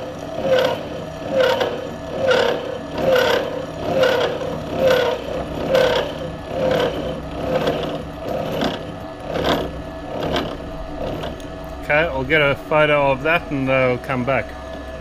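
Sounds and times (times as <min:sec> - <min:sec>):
milling cutter rhythmic scrape: 0:00.0 - 0:15.0
milling machine hum: 0:00.0 - 0:15.0.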